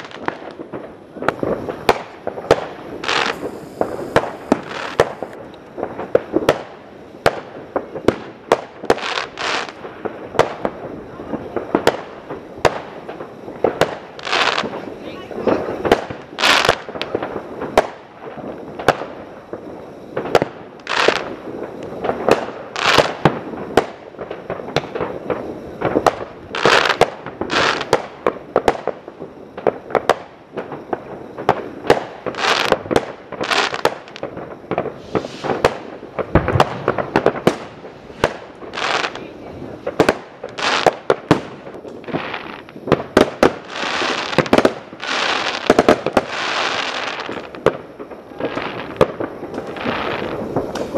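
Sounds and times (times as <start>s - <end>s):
fireworks bangs: 0.0s - 50.9s
fireworks hissing: 0.0s - 50.9s.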